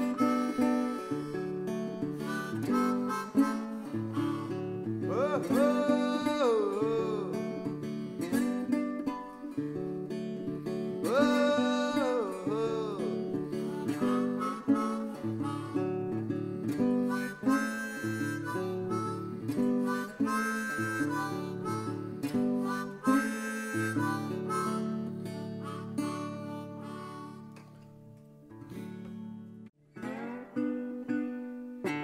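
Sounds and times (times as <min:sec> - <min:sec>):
harmonica melody: 0:00.0 - 0:29.5
strummed acoustic guitar: 0:00.0 - 0:32.0.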